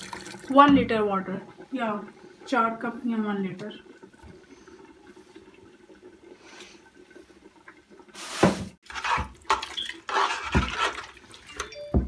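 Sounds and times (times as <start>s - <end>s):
liquid sloshing in a pot: 0.0s - 11.8s.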